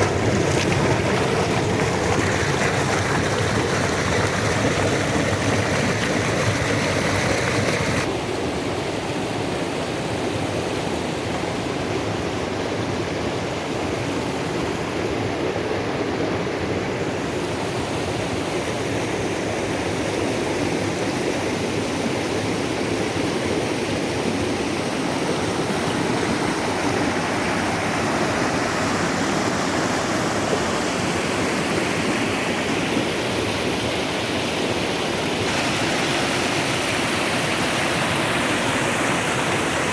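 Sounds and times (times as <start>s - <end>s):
mountain river rushing: 0.0s - 39.9s.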